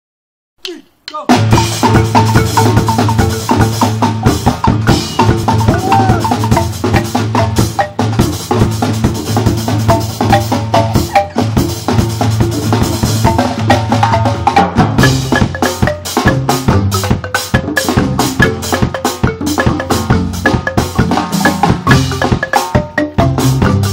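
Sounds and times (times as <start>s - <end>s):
drum kit: 0.6s - 23.9s
marimbas playing: 1.4s - 23.9s.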